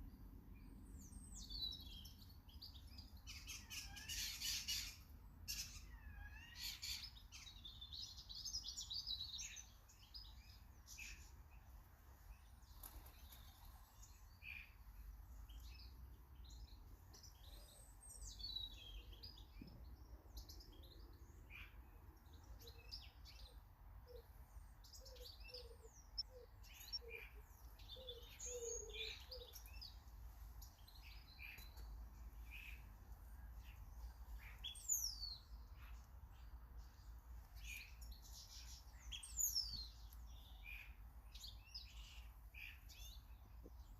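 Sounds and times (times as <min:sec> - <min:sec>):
garden birds chirping: 0:00.0 - 0:43.9.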